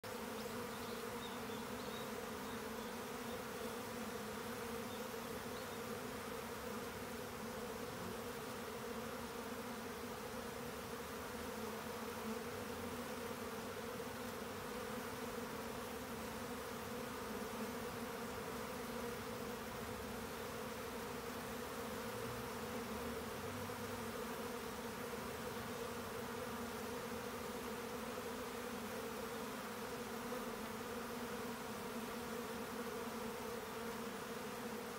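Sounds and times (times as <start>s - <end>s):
honeybees humming: 0.0s - 34.9s.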